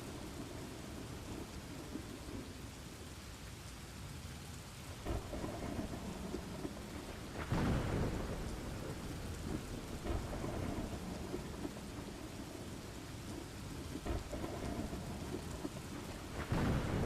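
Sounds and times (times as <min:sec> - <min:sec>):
thunder rumbling: 0:00.0 - 0:02.8, 0:04.9 - 0:17.0
steady rain: 0:00.0 - 0:17.0.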